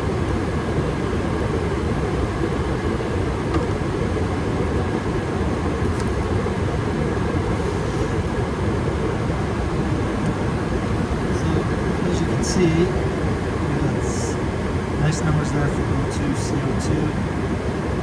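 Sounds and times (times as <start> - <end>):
furnace burners rumbling: 0.0 - 18.0.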